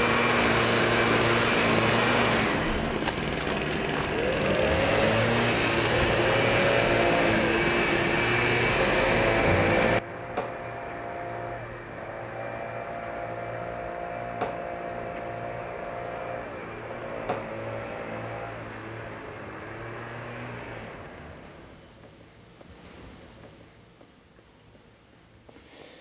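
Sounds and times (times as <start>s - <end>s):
small engine running: 0.0s - 21.5s.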